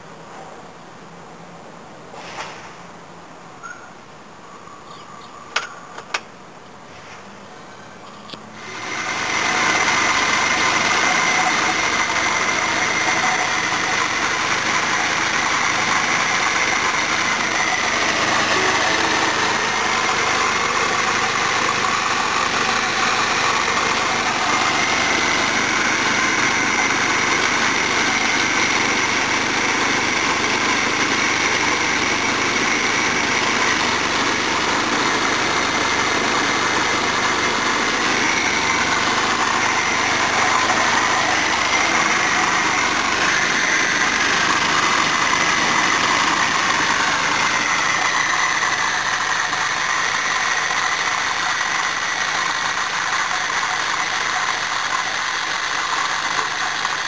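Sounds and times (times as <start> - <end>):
car engine running: 8.0 - 57.0.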